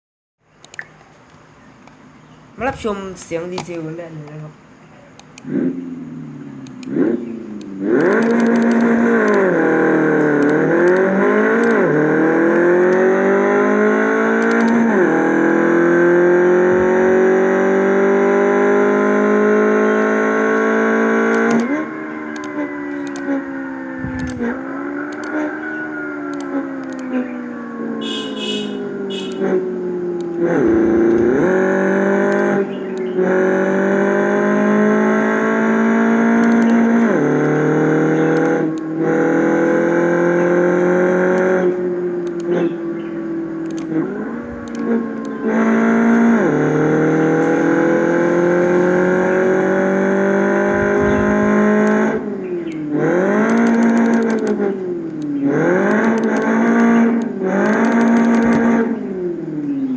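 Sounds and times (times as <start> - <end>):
diesel engine revving through gears: 2.5 - 59.9.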